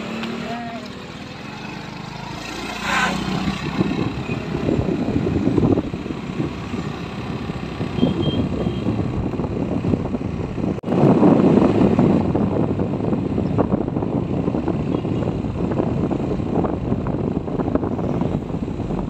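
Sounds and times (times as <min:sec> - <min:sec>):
wind rush on microphone: 0:02.2 - 0:19.0.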